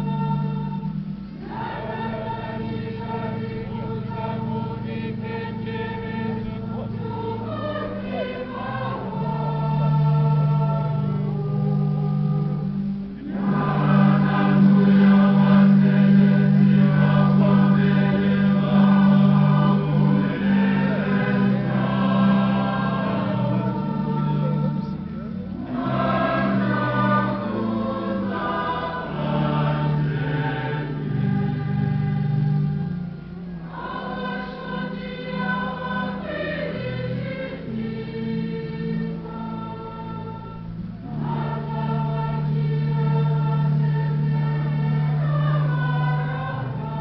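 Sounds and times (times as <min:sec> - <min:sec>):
choir singing a hymn: 0:00.0 - 0:47.0
steady low notes: 0:00.0 - 0:47.0.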